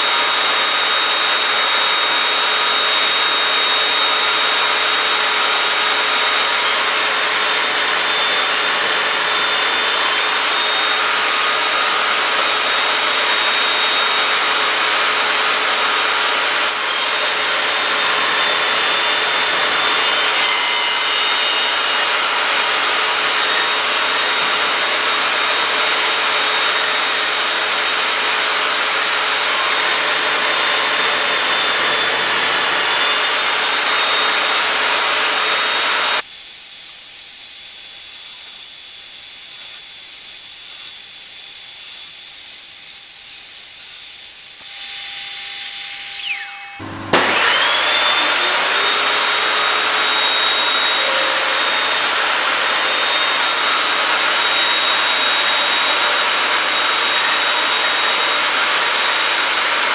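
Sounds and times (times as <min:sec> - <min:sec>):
power saw whining cutting wood: 0:00.0 - 0:59.9.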